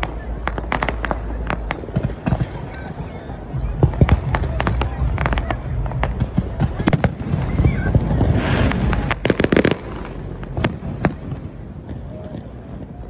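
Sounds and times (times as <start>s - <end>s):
crackling fireworks pops: 0.0s - 13.0s
fireworks rumbling and banging: 0.0s - 13.0s.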